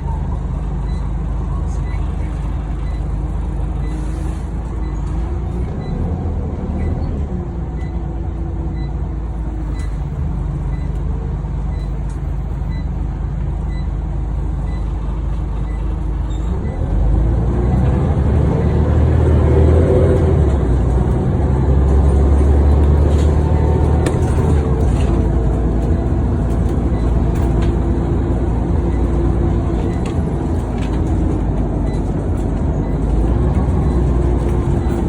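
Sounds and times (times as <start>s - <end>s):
bus engine running: 0.0s - 35.0s.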